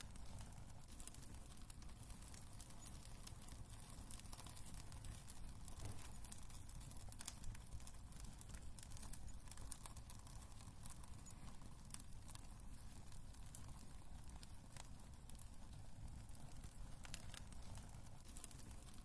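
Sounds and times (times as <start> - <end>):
fire crackles and pops: 0.0 - 19.0
fire rumbling: 0.0 - 19.0.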